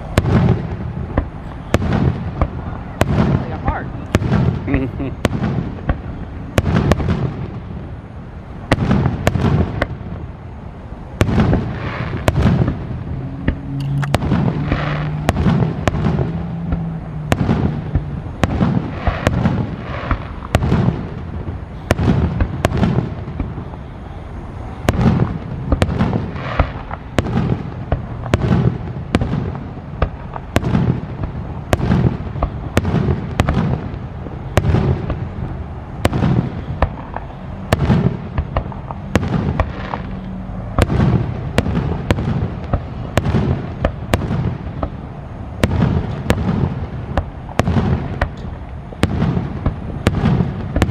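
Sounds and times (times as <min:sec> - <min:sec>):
fireworks bursting: 0:00.0 - 0:50.9.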